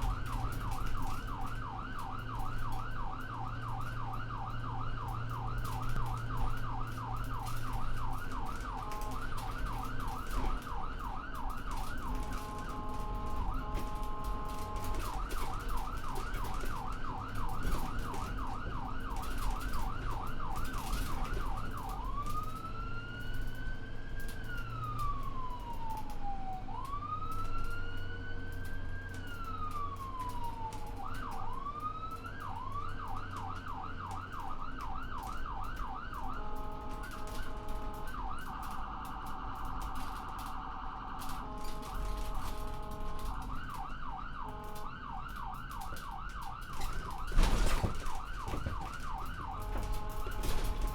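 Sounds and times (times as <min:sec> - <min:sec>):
ambulance siren: 0:00.0 - 0:50.9
vehicle rumble: 0:00.0 - 0:50.9.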